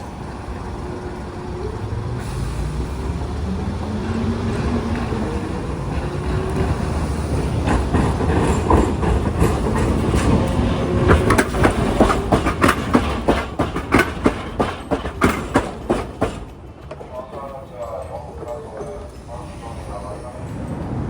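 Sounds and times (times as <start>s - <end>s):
tram rumbling on rails: 0.0s - 21.0s
wheels clacking over rail joints: 0.0s - 21.0s.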